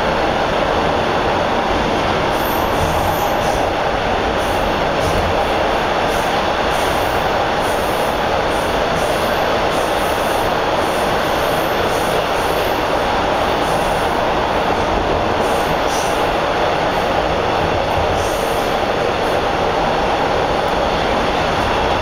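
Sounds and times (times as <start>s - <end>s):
subway car wheels on rail: 0.0s - 22.0s.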